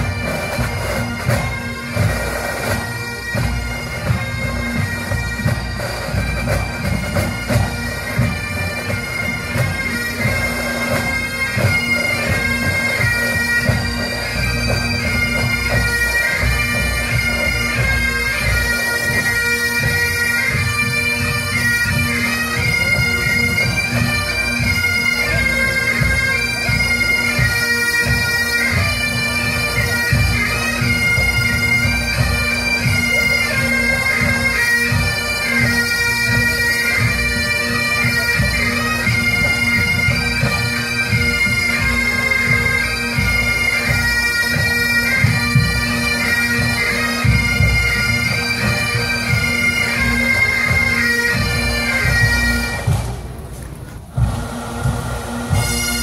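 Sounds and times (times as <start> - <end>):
bagpipes playing in unison: 0.0 - 56.0.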